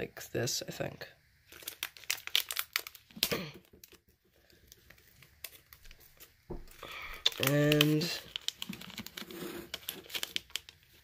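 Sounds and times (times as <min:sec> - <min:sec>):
plastic wrapper crinkling: 0:01.4 - 0:11.0.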